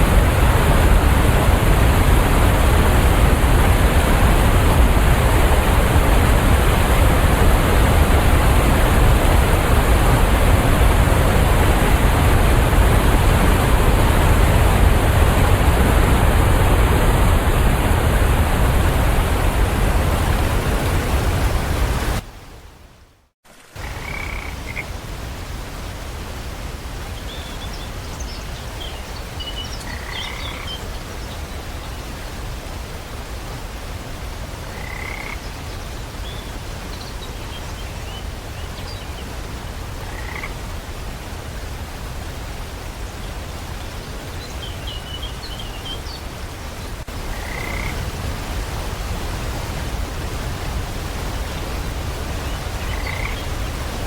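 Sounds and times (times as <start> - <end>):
rain hiss: 0.0 - 22.8, 23.5 - 54.0.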